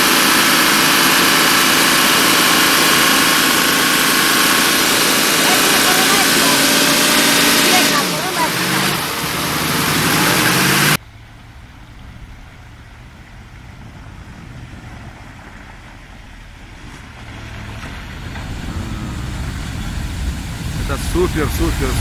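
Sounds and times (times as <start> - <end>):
distant truck engine rumble: 0.0 - 22.0
loud heavy truck engine: 0.0 - 22.0.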